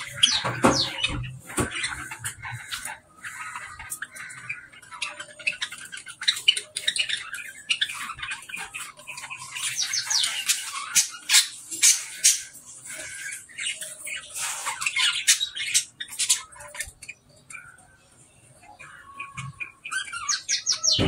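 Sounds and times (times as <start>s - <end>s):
budgerigars chattering: 0.0s - 18.0s, 18.6s - 21.0s.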